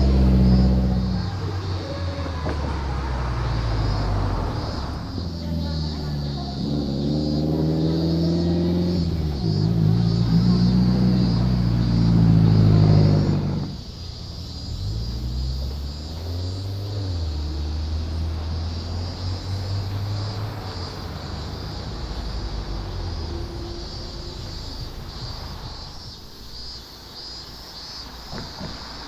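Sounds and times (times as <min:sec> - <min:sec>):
loud car engine revving: 0:00.0 - 0:26.1
car engines at low revs: 0:00.0 - 0:29.0.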